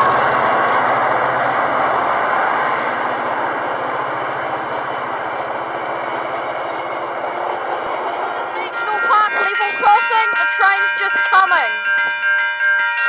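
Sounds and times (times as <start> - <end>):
train wheels rumbling on rails: 0.0 - 12.3.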